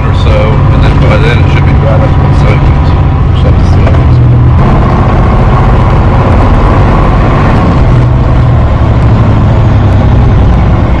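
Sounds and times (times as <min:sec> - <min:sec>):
heavy vehicle engine droning: 0:00.0 - 0:11.0.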